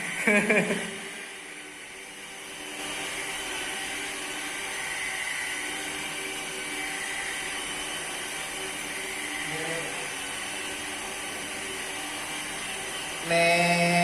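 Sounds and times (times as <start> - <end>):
electric car polisher running: 0.0 - 14.0.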